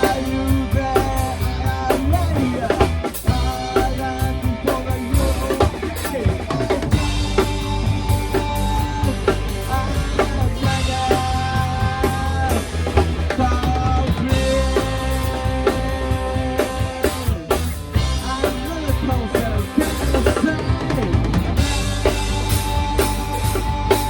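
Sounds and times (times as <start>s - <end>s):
drum kit kick and snare: 0.0s - 24.0s
rock band playing punk: 0.0s - 24.0s.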